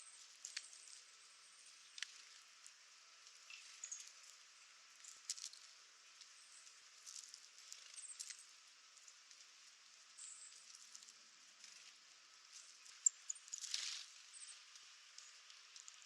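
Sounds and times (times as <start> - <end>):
light ticks and rustles: 0.0 - 16.0.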